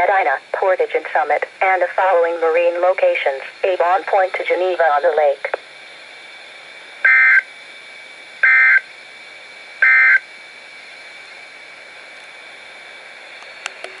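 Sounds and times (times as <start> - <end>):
radio hiss: 0.0 - 14.0.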